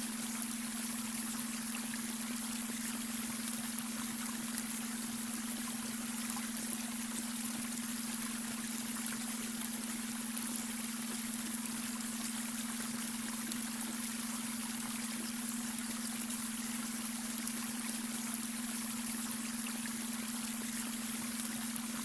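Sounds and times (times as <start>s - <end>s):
water trickling over stones: 0.0s - 22.0s.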